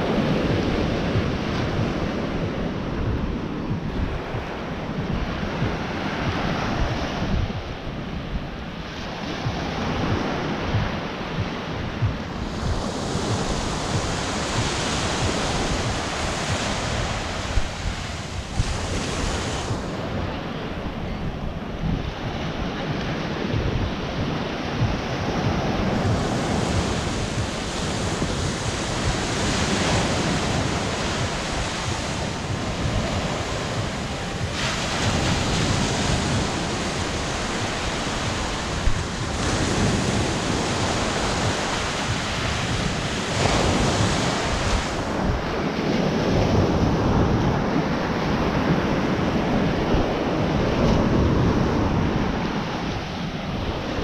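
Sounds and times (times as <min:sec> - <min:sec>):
surf breaking on sand: 0:00.0 - 0:54.0
wind buffeting microphone: 0:00.0 - 0:54.0.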